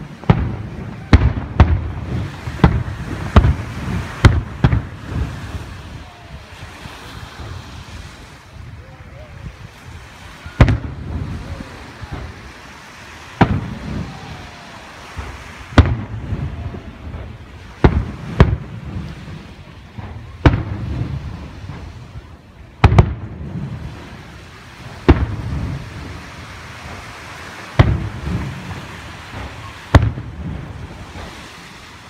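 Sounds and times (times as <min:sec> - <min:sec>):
low rolling echo: 0:00.0 - 0:06.5, 0:10.4 - 0:32.0
fireworks booming: 0:00.0 - 0:32.0.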